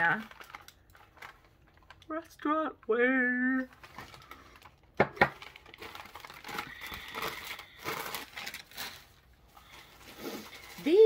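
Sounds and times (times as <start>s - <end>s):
wrapping rustling and crinkling: 0.0s - 11.0s.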